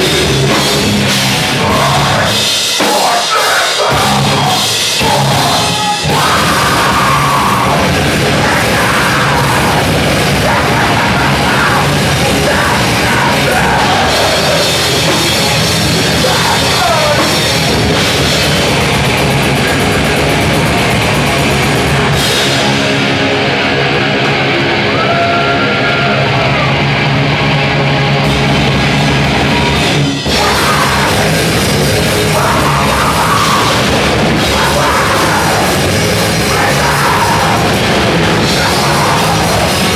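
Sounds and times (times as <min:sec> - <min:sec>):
heavy rock band playing: 0:00.0 - 0:39.9.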